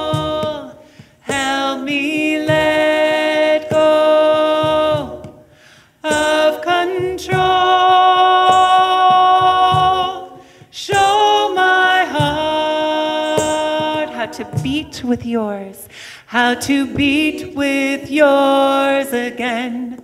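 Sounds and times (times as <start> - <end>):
soft hand drum beats: 0.0 - 15.5, 16.4 - 18.8
vocal ensemble singing in harmony: 0.0 - 20.0.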